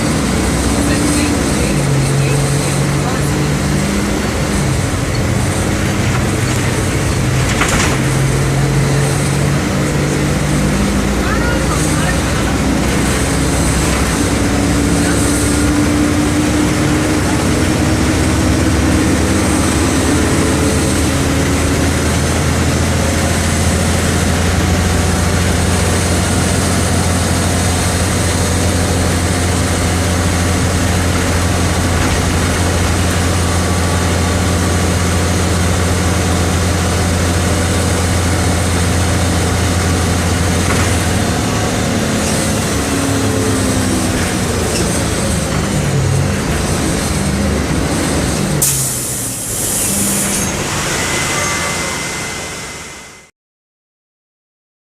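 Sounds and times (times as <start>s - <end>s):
bus diesel engine running: 0.0s - 53.3s.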